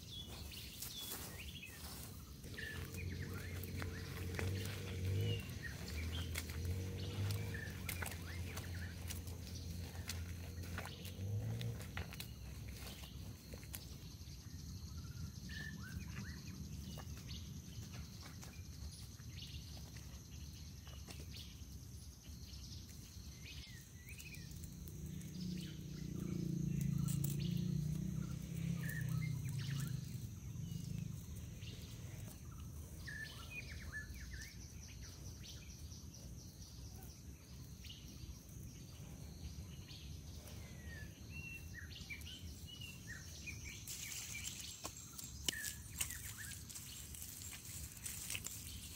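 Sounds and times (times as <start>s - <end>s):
birds chirping: 0.0s - 48.9s
high insect whine: 0.0s - 48.9s.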